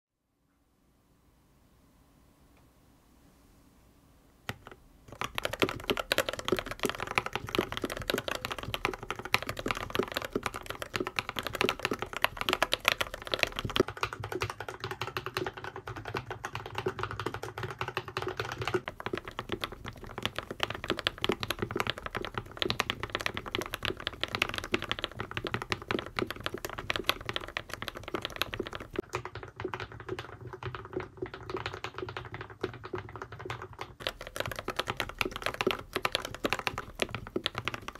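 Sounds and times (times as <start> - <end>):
typing on mechanical keyboard: 4.5 - 37.9.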